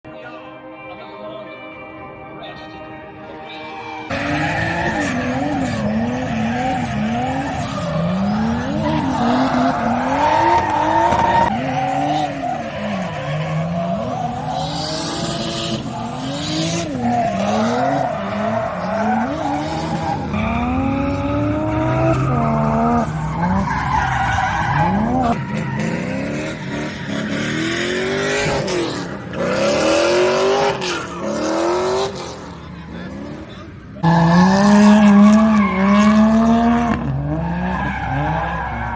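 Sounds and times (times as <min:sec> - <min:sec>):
tires squealing and skidding: 0:03.6 - 0:38.9
car engines revving hard: 0:04.1 - 0:38.9.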